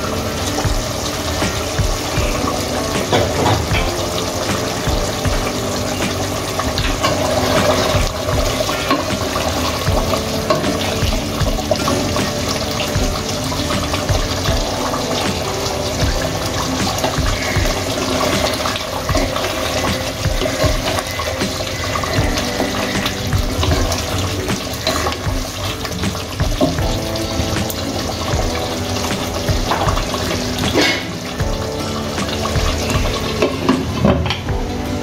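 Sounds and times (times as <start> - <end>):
curry bubbling and spluttering: 0.0 - 34.8
background music: 0.0 - 35.0.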